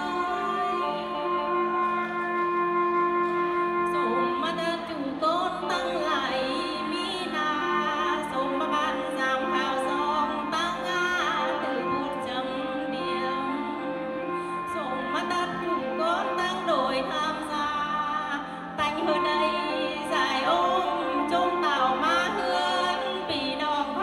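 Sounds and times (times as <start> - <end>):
sustained instrumental accompaniment: 0.0 - 24.0.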